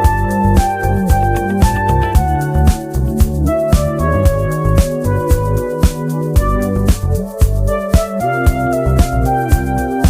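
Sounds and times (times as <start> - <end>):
keyboard chords: 0.0 - 10.0
steady drum beat: 0.0 - 10.0.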